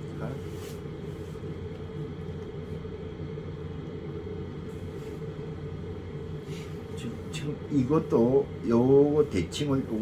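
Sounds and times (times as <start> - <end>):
low rumble with faint hum: 0.0 - 10.0.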